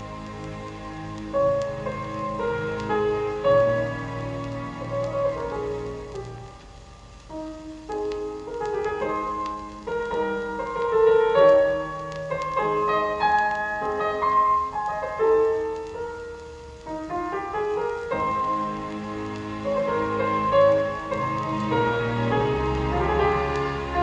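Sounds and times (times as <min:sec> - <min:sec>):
piano music over loudspeakers: 0:00.0 - 0:24.0.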